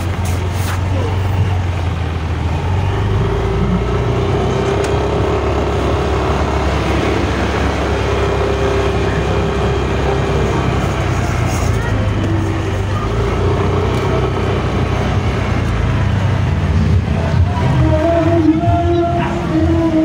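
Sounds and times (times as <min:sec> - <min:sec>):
scooter engine droning: 0:00.0 - 0:20.0.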